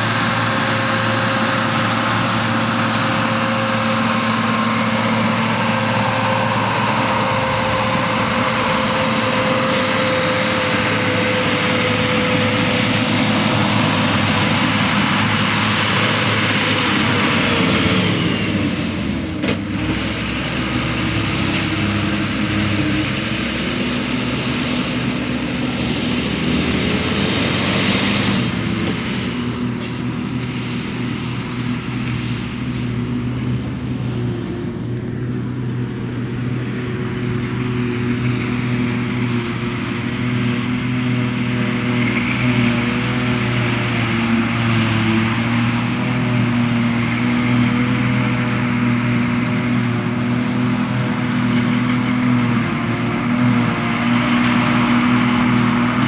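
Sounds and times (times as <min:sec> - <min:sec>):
forage harvester working: 0:00.0 - 0:56.0
tractor diesel engine droning: 0:00.0 - 0:56.0.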